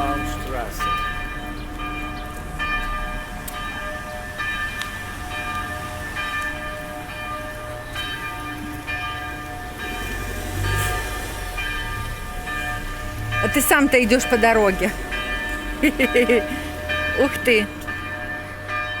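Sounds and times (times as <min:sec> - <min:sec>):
church bells pealing: 0:00.0 - 0:19.0.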